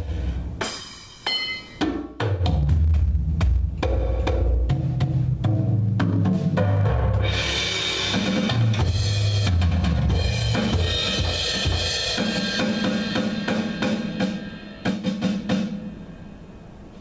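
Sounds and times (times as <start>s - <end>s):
electronic drum kit: 0.0s - 16.9s
backing track with bass line: 1.8s - 15.6s.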